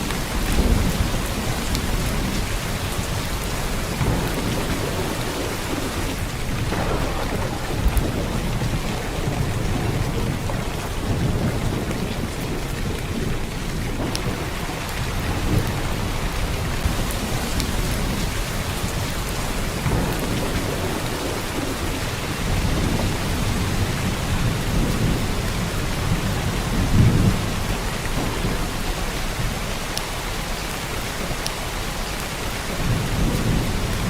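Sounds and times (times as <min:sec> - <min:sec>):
heavy rain downpour: 0:00.0 - 0:34.0.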